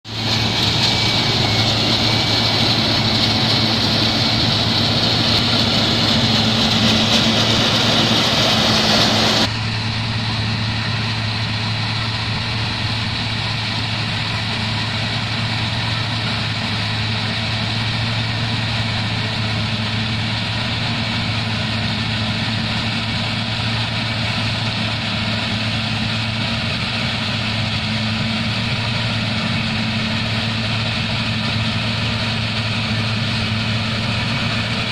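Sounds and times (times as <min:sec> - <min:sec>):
harvester engine drone: 0:00.0 - 0:34.9.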